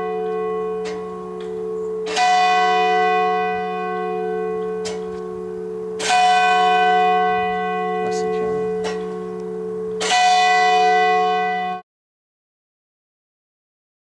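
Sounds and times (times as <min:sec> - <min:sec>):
church bell tolling: 0:00.0 - 0:11.8.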